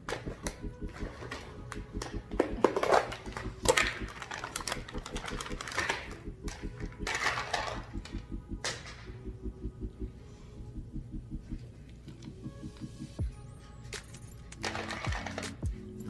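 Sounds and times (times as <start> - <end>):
background music with low beat: 0.0 - 16.0.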